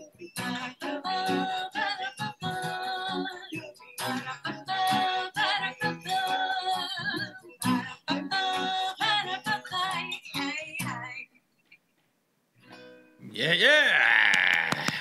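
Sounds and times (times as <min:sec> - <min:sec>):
guitar accompaniment: 0:00.0 - 0:11.2, 0:12.6 - 0:15.0
person singing: 0:00.0 - 0:11.2, 0:13.2 - 0:15.0.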